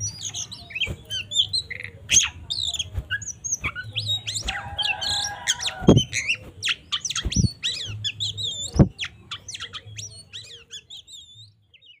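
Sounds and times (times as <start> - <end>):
bird singing whistles: 0.0 - 12.0.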